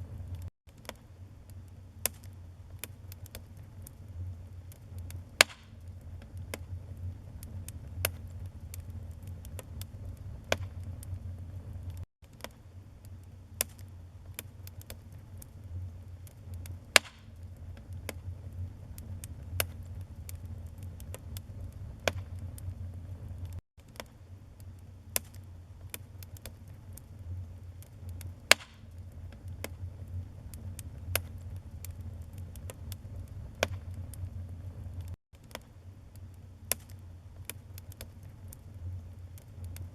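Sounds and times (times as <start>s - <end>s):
burning wood crackling and popping: 0.0s - 39.9s
fire flames rumbling: 0.0s - 39.9s.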